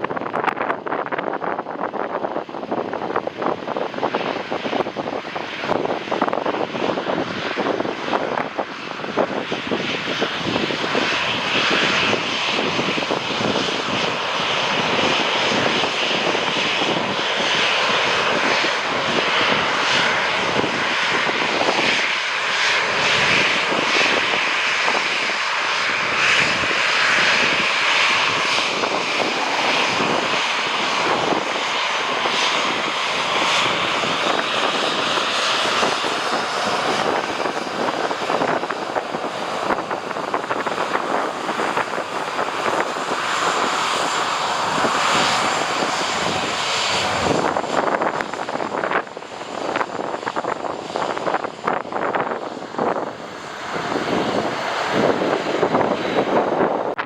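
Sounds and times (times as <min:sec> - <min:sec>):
jet engines roaring: 0:00.0 - 0:57.0
wind gusting on microphone: 0:00.0 - 0:57.0.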